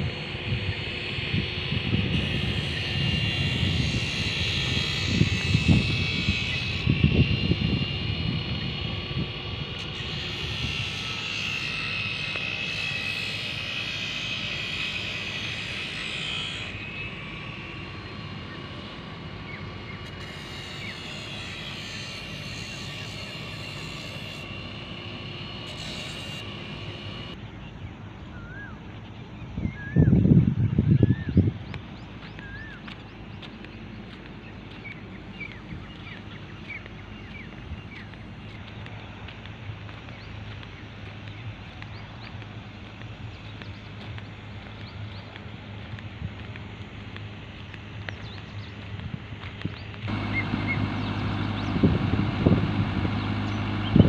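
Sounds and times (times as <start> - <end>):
wind rumbling on microphone: 0.0 - 21.6, 22.2 - 54.0
birds chirping: 0.0 - 54.0
distant engine whining: 0.0 - 54.0.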